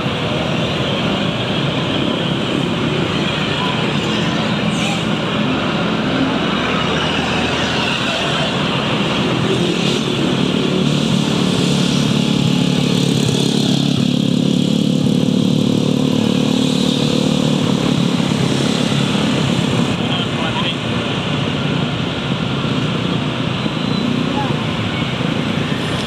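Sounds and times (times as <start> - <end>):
motorbikes passing: 0.0 - 26.0
road and wind noise: 0.0 - 26.0.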